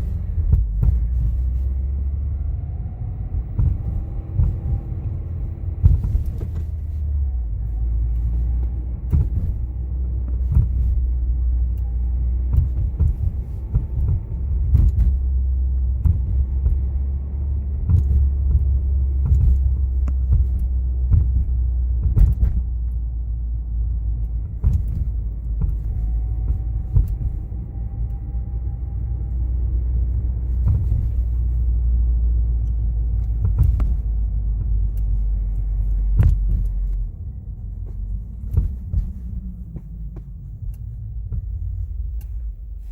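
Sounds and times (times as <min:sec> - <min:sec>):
car exhaust rumble: 0:00.0 - 0:42.9
faint whirring whine: 0:00.0 - 0:42.9.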